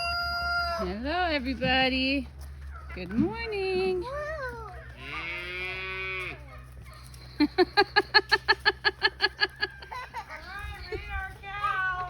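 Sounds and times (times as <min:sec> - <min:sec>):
farm animals calling: 0:00.0 - 0:12.0.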